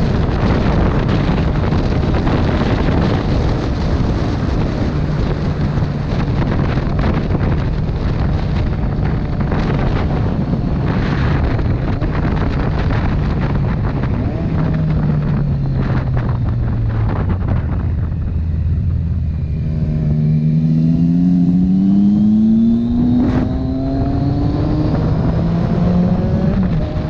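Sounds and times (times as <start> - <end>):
motorcycle engine hum: 0.0 - 27.0
wind rushing over microphone: 0.0 - 27.0.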